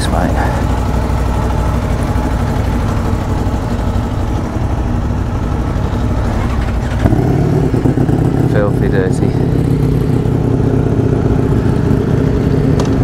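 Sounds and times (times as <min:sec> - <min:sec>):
heavy vehicle engine idling: 0:00.0 - 0:13.0
second louder engine: 0:00.0 - 0:13.0.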